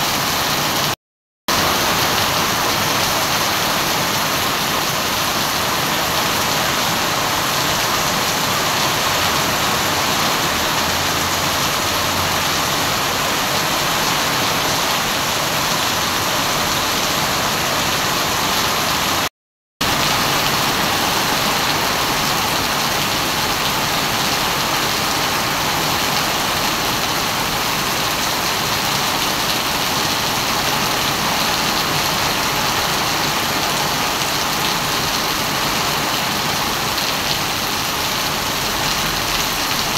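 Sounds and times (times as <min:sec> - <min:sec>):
heavy rain on paved street: 0:00.0 - 0:39.9.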